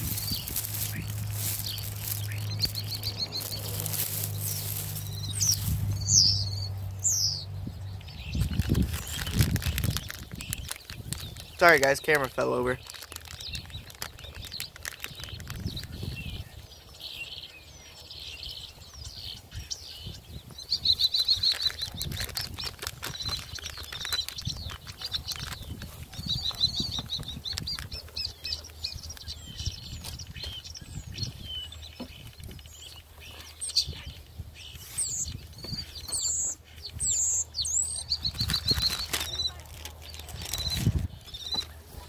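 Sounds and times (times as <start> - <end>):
wind rumble on microphone: 0.0 - 11.6, 13.1 - 16.9, 18.5 - 33.0, 33.6 - 42.0
small birds chirping and twittering: 0.0 - 42.0.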